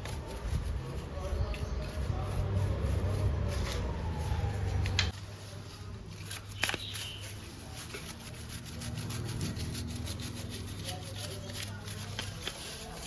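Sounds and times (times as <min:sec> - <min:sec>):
stiff brush scrubbing: 0:00.0 - 0:13.0.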